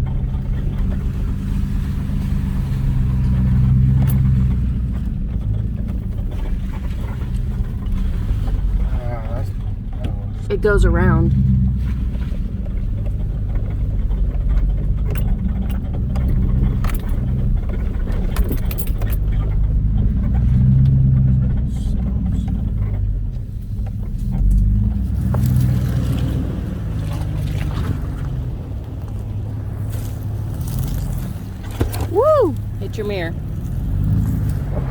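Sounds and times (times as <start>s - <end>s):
knocks and rattles from bumps: 0.0s - 34.9s
vehicle engine running at low speed: 0.0s - 34.9s.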